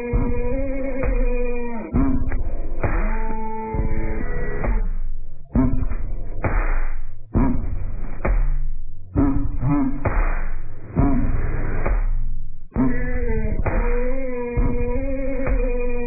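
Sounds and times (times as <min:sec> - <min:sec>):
bass-heavy background music: 0:00.0 - 0:16.0.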